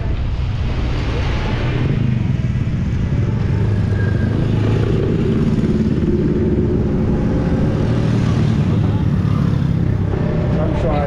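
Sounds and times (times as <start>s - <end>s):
tram engine and road noise: 0.0s - 11.0s
motorcycles passing by: 2.1s - 11.0s.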